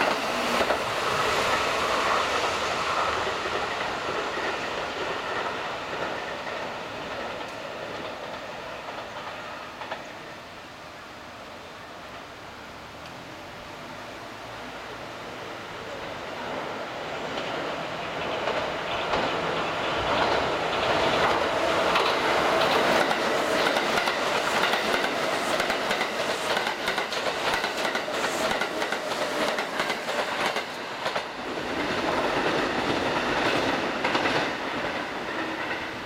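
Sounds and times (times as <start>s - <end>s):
train wheels clacking over rail joints: 0.0s - 10.2s, 17.2s - 36.0s.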